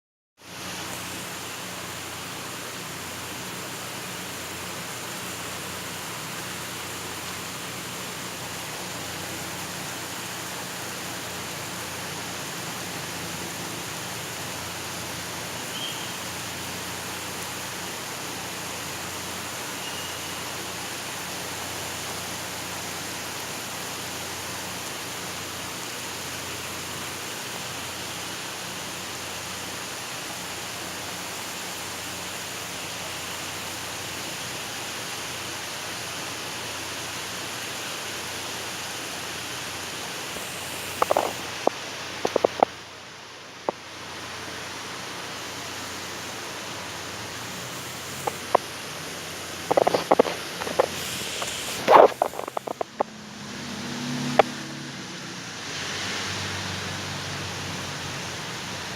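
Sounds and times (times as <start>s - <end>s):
heavy rain pouring: 0.4s - 58.9s.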